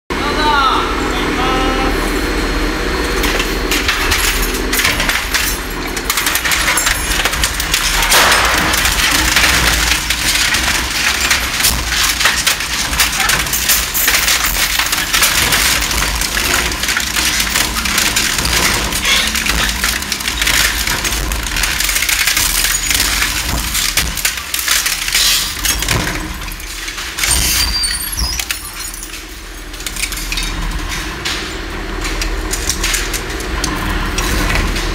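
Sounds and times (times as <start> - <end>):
shredder low rumble: 0.1 - 34.9
metal and plastic crunching: 3.2 - 34.9.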